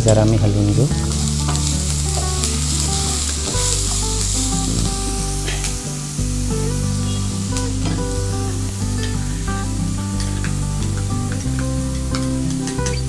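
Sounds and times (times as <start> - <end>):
background music low notes: 0.0 - 13.0
onions sizzling in oil: 0.6 - 13.0.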